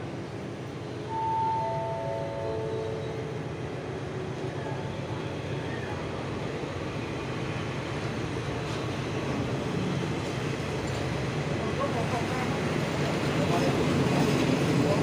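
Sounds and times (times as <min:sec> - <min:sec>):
train wheels on rails: 0:02.6 - 0:15.0.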